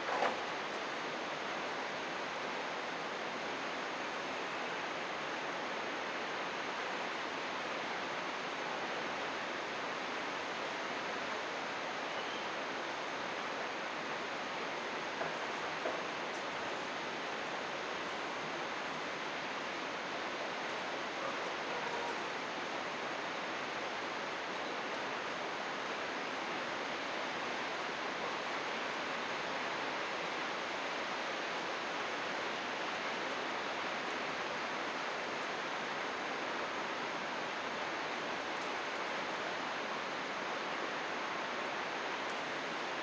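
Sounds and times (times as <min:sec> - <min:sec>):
rushing mountain stream water: 0:00.0 - 0:43.0.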